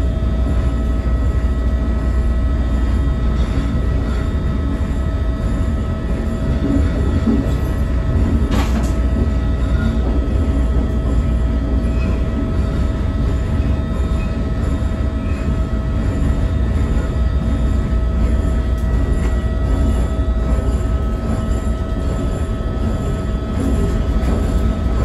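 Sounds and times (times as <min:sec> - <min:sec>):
steady train whine: 0:00.0 - 0:25.0
train low rumble: 0:00.0 - 0:25.0.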